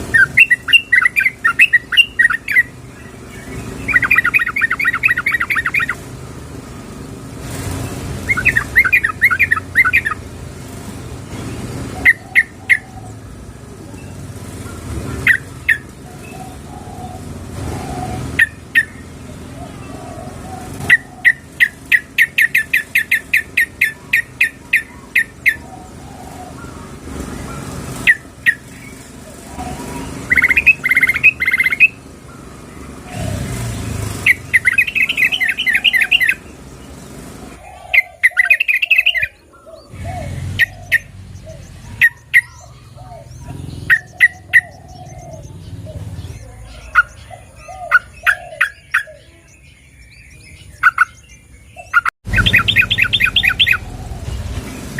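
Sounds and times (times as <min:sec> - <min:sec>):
bird chirping and chattering: 0:00.0 - 0:54.9.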